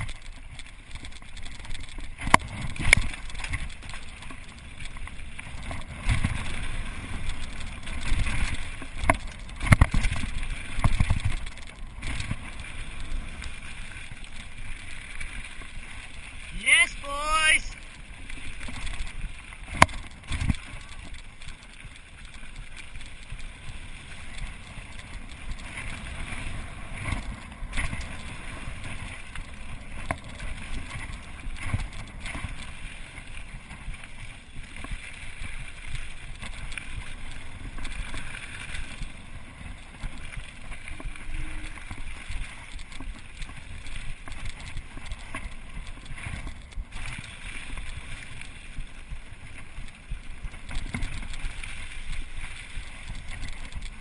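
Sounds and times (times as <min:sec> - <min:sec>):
bike tyres crunching over gravel: 0:00.0 - 0:16.8, 0:17.4 - 0:54.0.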